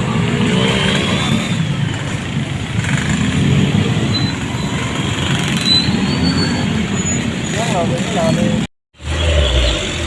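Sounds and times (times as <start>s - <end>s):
buses passing with engine rumble: 0.0s - 10.0s
road traffic: 0.0s - 10.0s.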